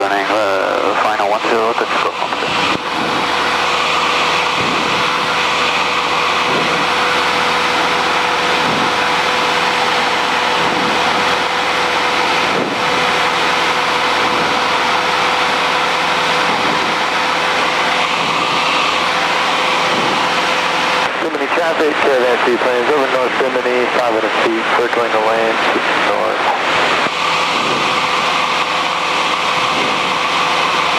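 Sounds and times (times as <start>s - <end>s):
plane engine and propeller droning: 0.0s - 30.9s.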